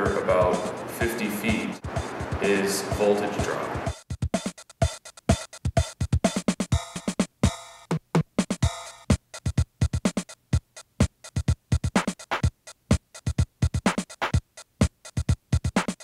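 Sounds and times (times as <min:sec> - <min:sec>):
drum machine beat: 0:00.0 - 0:16.0.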